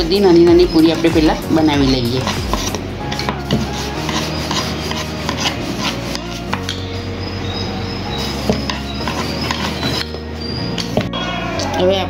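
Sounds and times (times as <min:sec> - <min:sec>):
rolling pin rolling dough: 0:00.0 - 0:11.9.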